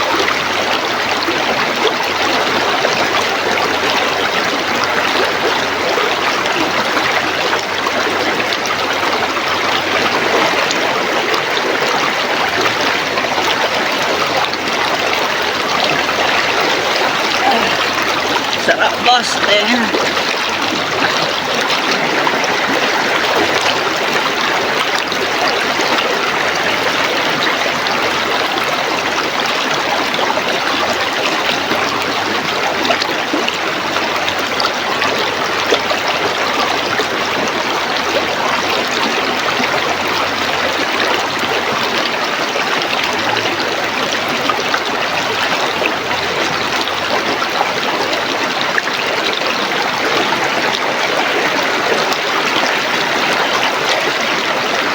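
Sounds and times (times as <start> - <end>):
river water rushing over rocks: 0.0 - 54.9.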